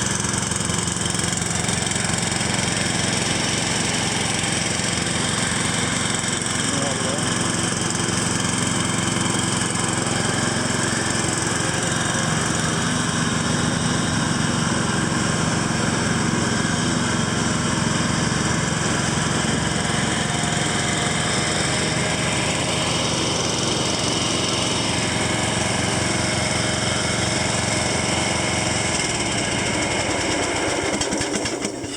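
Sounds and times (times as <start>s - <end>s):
lawn tractor engine running: 0.0s - 31.9s.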